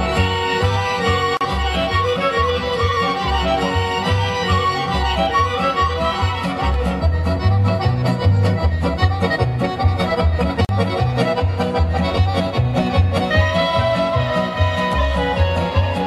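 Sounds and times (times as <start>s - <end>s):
accordion: 0.0s - 16.0s
fiddle: 0.0s - 16.0s.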